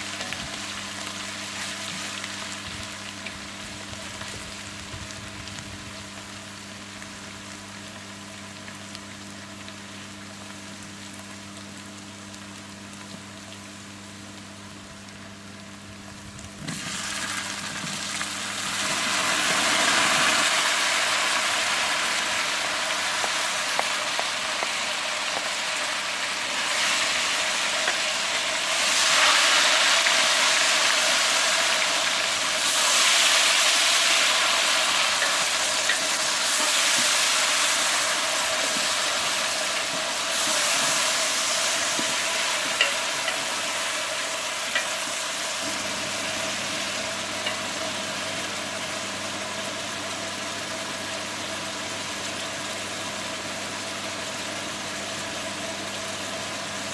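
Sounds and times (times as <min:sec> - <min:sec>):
food sizzling in hot oil: 0:00.0 - 0:56.9.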